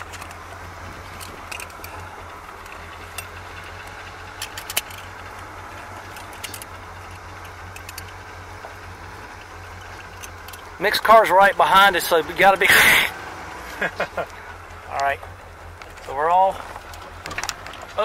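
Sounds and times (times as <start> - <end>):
light clicks and rattles: 0.0 - 11.2, 14.2 - 18.0
car engine idling: 0.0 - 18.0.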